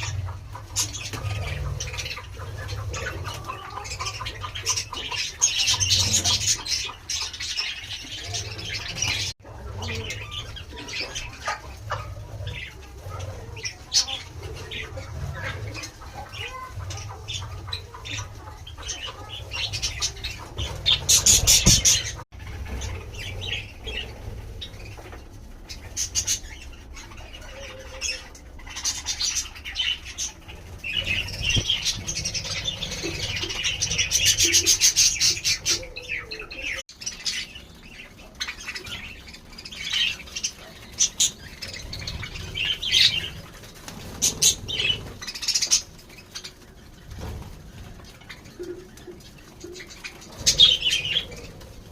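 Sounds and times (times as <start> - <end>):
budgerigars chattering and chirping: 0.0 - 51.9.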